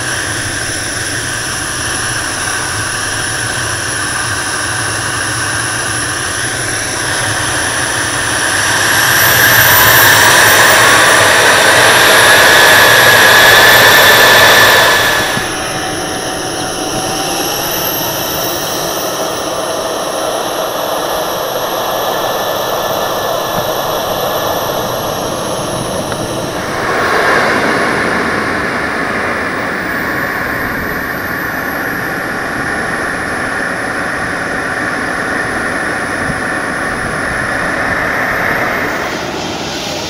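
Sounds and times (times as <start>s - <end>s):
model jet turbines whining: 0.0s - 40.0s.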